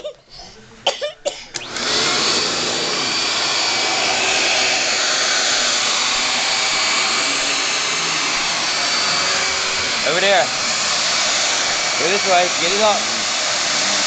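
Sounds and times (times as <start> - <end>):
vacuum cleaner running: 1.6 - 14.0.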